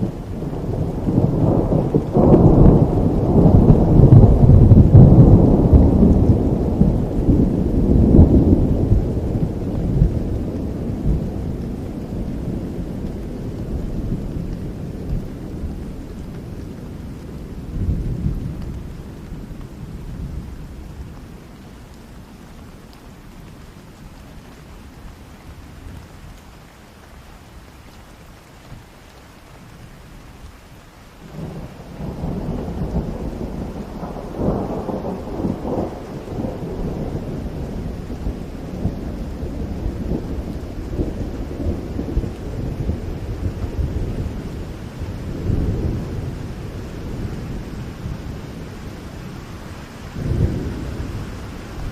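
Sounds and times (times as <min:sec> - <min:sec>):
crackling thunder peal: 0:00.0 - 0:21.2, 0:31.2 - 0:51.9
thunder rumbling: 0:00.0 - 0:21.6, 0:31.2 - 0:51.9
rain falling in forest: 0:00.0 - 0:51.9.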